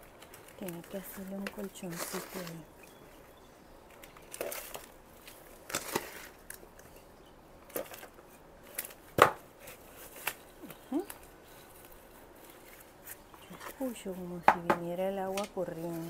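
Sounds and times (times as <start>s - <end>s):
soil and pot rustling and knocking: 0.0s - 16.0s.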